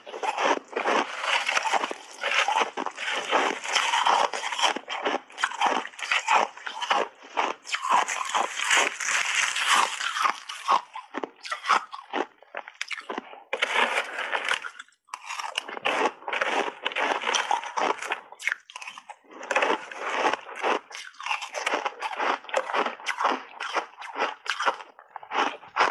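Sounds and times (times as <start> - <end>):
ice crunching being chewed: 0.0 - 25.9.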